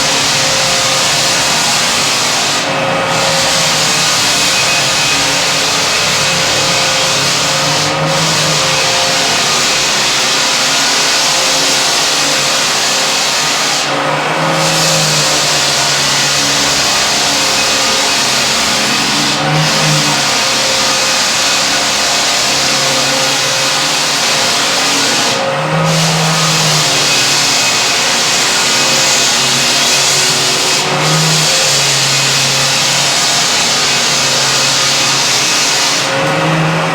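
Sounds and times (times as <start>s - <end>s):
floor sander running: 0.0s - 36.9s
vacuum hiss and whine: 0.0s - 36.9s.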